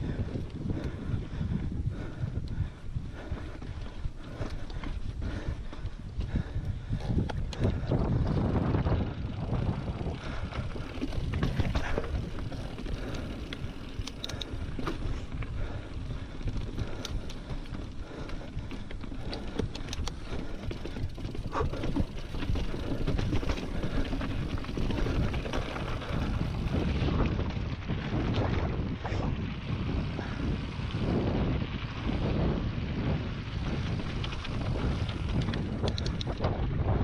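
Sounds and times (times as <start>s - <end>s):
bike rattling: 0.0s - 37.0s
wind noise on microphone: 0.0s - 37.0s.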